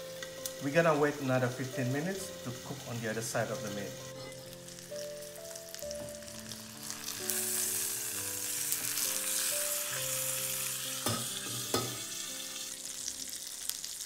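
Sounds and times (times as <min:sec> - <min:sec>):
meat sizzling in a skillet: 0:00.0 - 0:14.0
piano music: 0:00.0 - 0:14.0.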